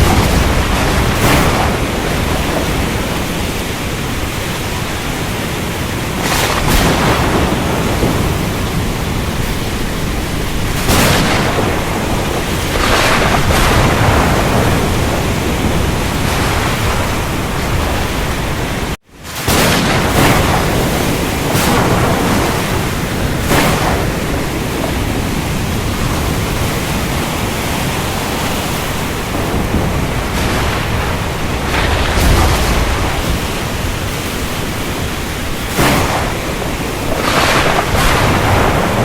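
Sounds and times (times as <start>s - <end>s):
rain: 0.0s - 39.0s
surf: 0.0s - 39.0s
thunder crashes: 0.0s - 39.0s.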